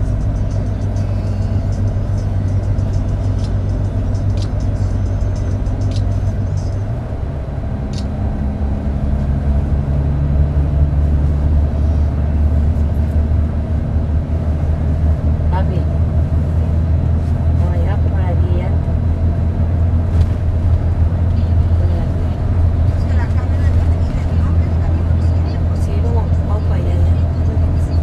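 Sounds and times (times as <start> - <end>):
bus engine drone: 0.0 - 28.0
tyres on the road: 0.0 - 28.0.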